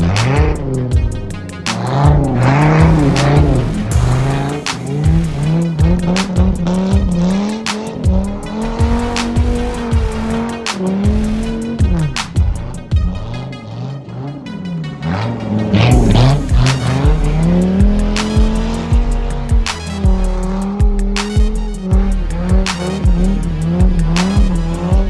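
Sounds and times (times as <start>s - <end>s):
car engine revving: 0.0s - 25.0s
music with a steady beat: 0.0s - 25.0s.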